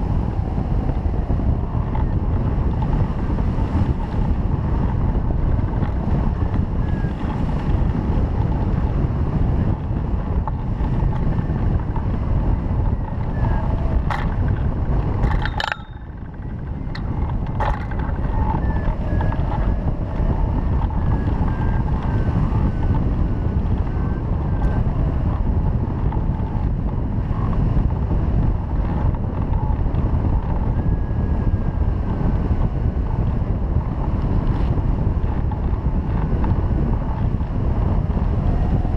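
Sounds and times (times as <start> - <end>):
wind rushing on microphone: 0.0 - 38.9.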